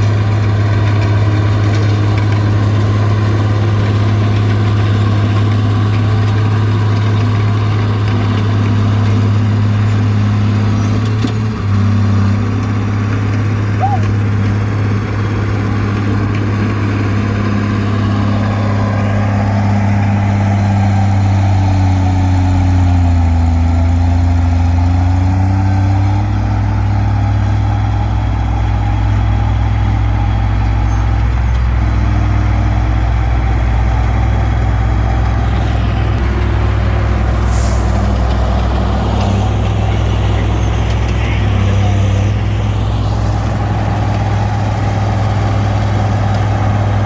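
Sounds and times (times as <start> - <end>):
bulldozer diesel engine under load: 0.0 - 47.0.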